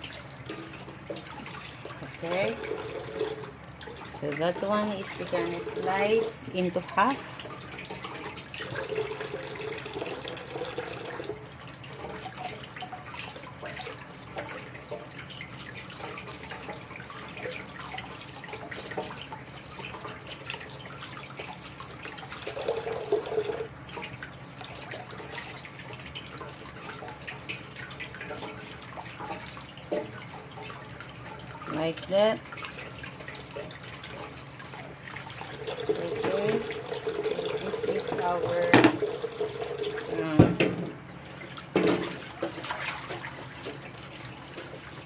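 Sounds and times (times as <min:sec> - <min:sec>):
small splashes: 0:00.0 - 0:45.0
tap water running into sink: 0:00.0 - 0:45.0.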